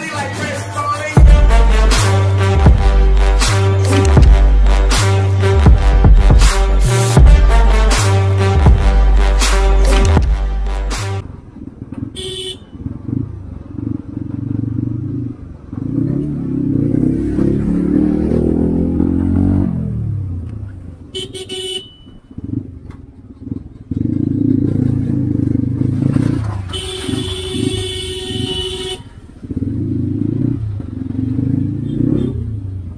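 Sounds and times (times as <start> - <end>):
motorcycle engine revving: 1.2 - 20.8, 22.3 - 32.9.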